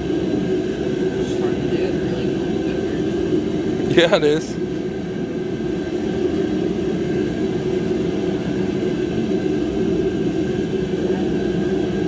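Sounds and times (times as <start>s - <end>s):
motor or fan humming: 0.0s - 12.0s.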